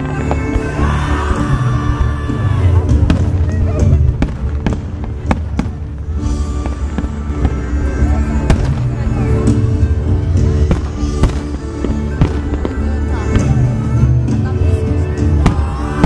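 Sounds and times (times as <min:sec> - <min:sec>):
fireworks bangs: 0:00.0 - 0:14.4, 0:15.2 - 0:16.0
loud music: 0:00.0 - 0:16.0.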